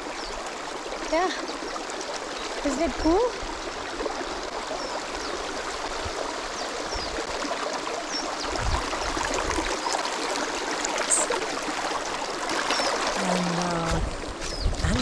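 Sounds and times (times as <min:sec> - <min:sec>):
river flowing over stones: 0:00.0 - 0:15.0.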